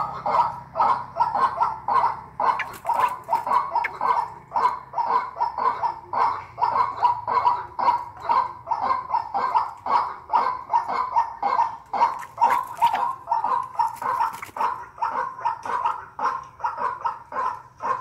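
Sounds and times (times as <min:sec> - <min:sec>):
bird harsh repeated call: 0:00.0 - 0:18.0.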